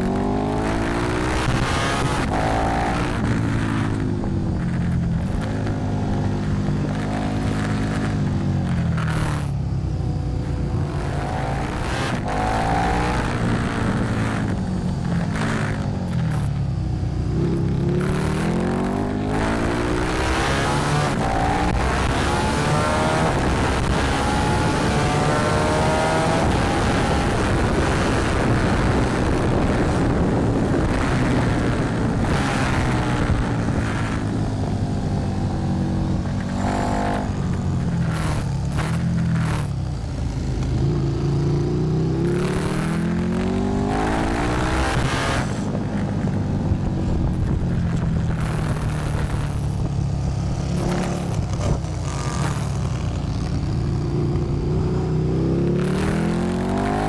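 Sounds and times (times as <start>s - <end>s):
motorcycle engine revving: 0.0s - 57.0s
wind and road rush: 0.0s - 57.0s.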